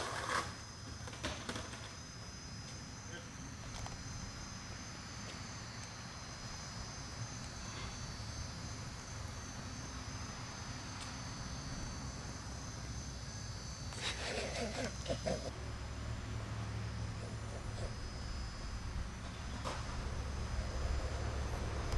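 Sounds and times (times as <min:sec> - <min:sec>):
insect chorus: 0:00.0 - 0:21.9.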